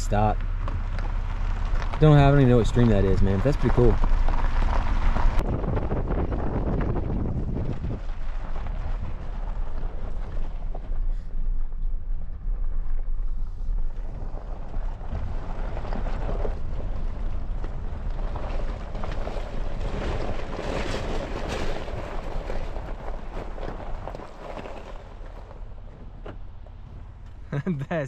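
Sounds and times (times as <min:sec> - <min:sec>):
truck driving on gravel: 0:00.0 - 0:28.0
wind buffeting microphone: 0:00.7 - 0:27.5.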